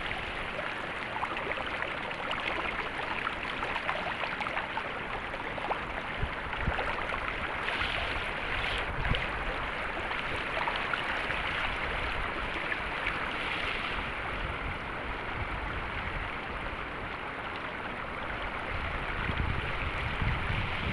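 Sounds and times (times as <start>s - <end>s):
water rushing: 0.0s - 20.9s.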